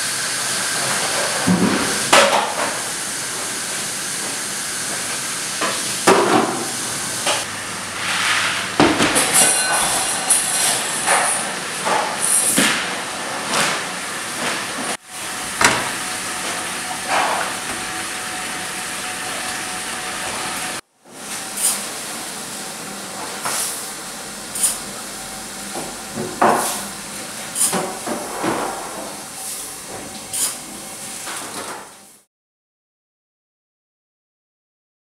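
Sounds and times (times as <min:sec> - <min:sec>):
kitchen hiss: 0:00.0 - 0:13.1, 0:14.2 - 0:25.2, 0:25.9 - 0:31.3.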